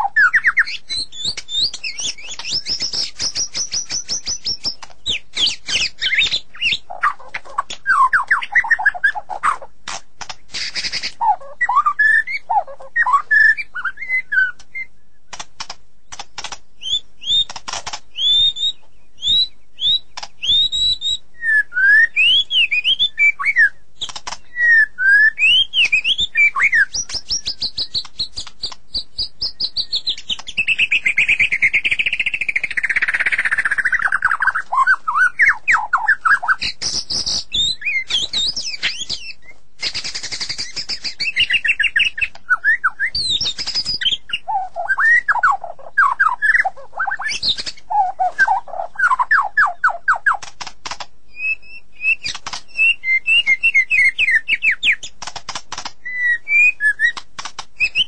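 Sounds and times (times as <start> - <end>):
songbird singing whistled phrases: 0.0 - 9.7, 10.5 - 15.4, 16.1 - 50.5, 51.3 - 55.1, 56.0 - 57.2, 57.8 - 58.0
dry bird clicking notes: 0.0 - 21.0, 21.9 - 58.0.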